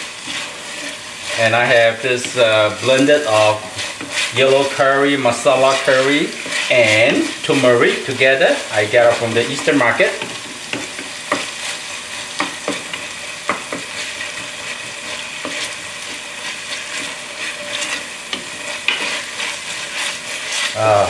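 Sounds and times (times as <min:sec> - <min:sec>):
food sizzling in hot oil: 0:00.0 - 0:21.0
wooden spoon stirring and scraping: 0:00.0 - 0:21.0.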